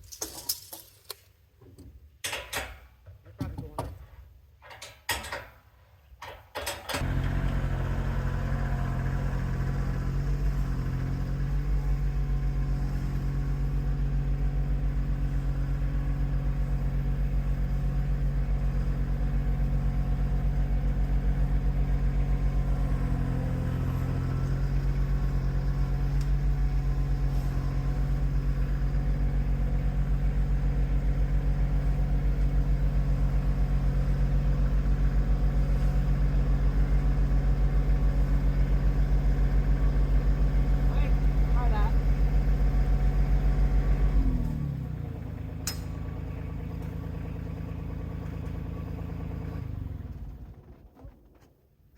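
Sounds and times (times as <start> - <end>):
engine idling: 6.9 - 51.0.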